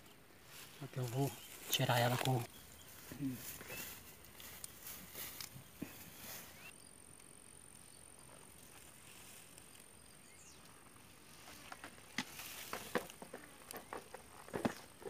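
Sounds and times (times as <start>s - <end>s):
rustling in dry grass: 0.0s - 6.8s, 7.4s - 15.0s.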